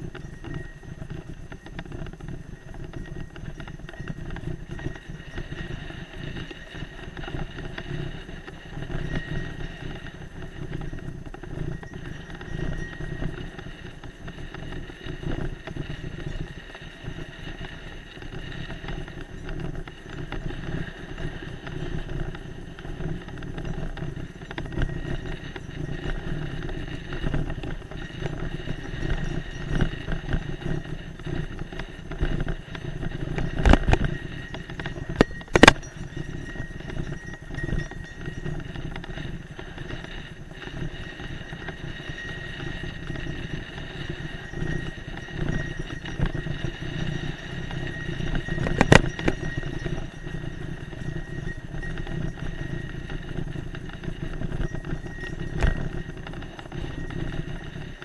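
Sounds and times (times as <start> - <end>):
bike rattling: 0.0 - 58.0.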